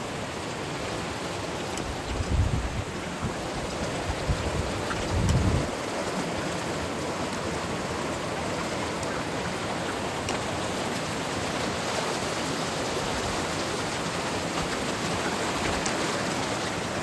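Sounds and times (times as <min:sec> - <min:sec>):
stream water rushing over rock: 0:00.0 - 0:17.0.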